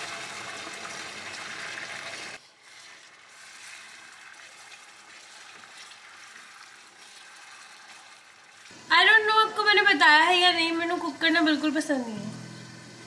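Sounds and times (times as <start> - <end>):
tomato sizzling in hot oil: 0.0 - 13.0.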